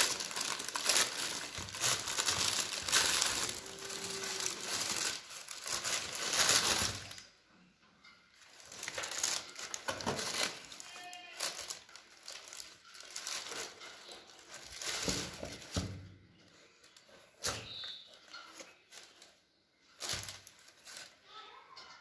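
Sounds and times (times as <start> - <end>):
tissue paper crinkling and rustling: 0.0 - 7.3, 8.4 - 21.2.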